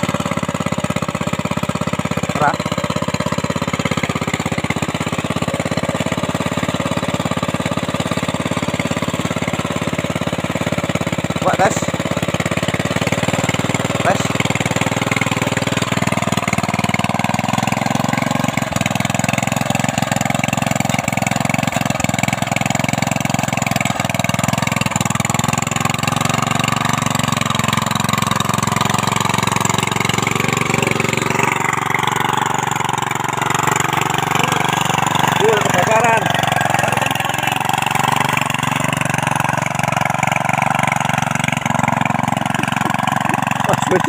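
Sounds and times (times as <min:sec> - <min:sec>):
small cultivator engine running: 0:00.0 - 0:44.0
tines churning ground: 0:00.0 - 0:44.0.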